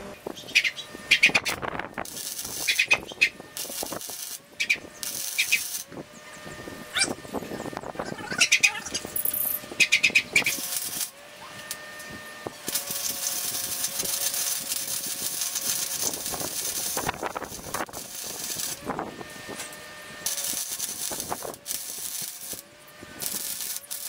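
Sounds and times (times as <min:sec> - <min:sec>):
arc welding hiss and crackle: 0:00.0 - 0:24.0.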